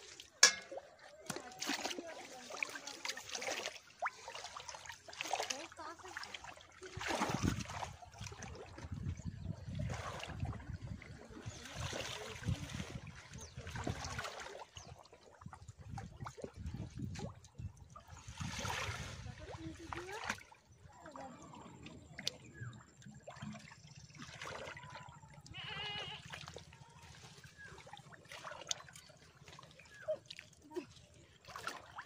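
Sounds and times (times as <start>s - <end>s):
shallow water splashing: 0.0s - 32.0s.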